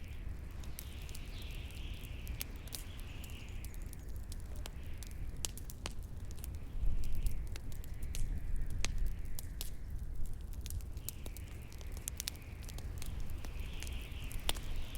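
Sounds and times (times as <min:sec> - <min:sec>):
bonfire crackling: 0:00.0 - 0:14.9.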